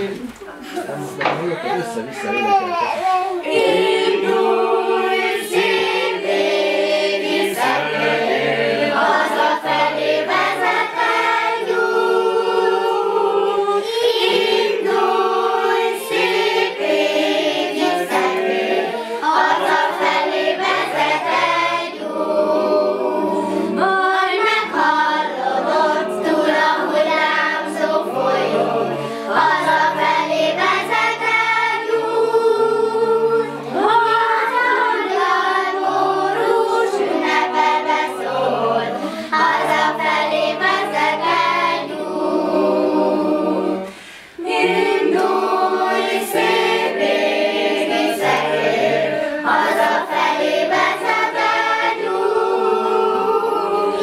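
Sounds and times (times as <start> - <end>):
adults and children singing: 0.0 - 54.0.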